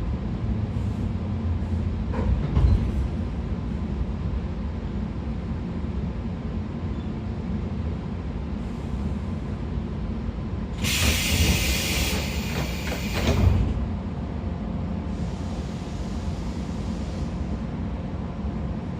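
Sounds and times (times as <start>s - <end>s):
electric train rumble: 0.0s - 18.9s.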